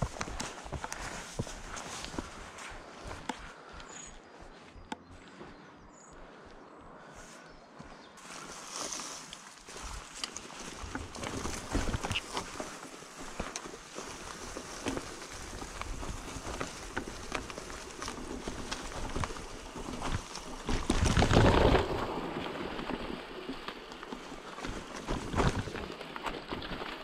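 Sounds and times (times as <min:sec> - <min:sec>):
leaves crackling: 0:00.0 - 0:05.4, 0:08.2 - 0:27.0
bike tyres rolling over leaves: 0:00.0 - 0:06.4, 0:07.0 - 0:27.0.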